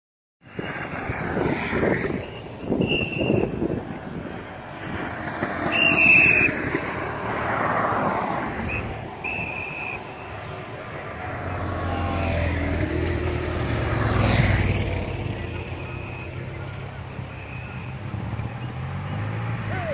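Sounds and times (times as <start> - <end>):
car passing: 0.4 - 19.9
motorcycle passing: 0.6 - 19.9.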